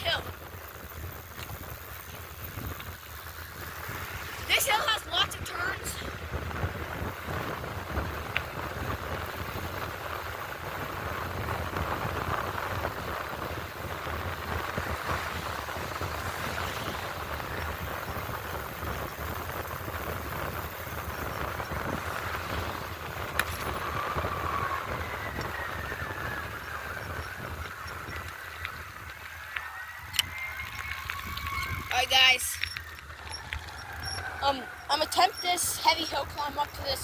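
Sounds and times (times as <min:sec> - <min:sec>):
tyre noise: 0:00.0 - 0:37.0
wind over microphone: 0:00.0 - 0:37.0.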